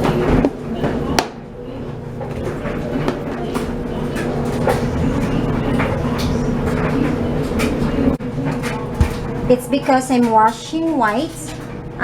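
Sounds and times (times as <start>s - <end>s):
clothes dryer humming: 0.0s - 12.0s.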